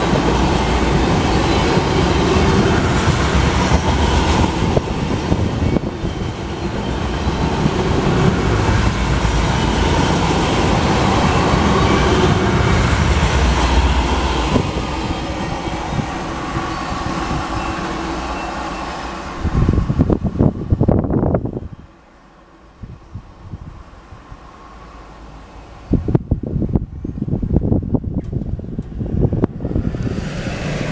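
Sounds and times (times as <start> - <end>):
freight train rolling over rails: 0.0 - 30.9.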